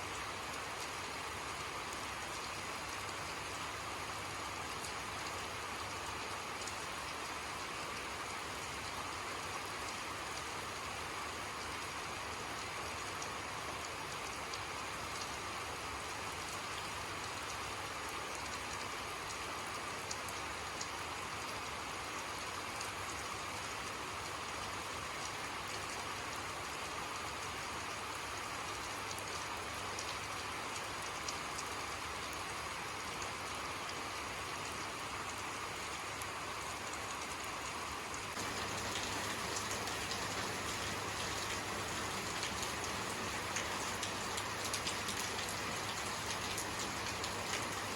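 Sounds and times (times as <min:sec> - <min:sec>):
rain pattering on a surface: 0:00.0 - 0:47.9.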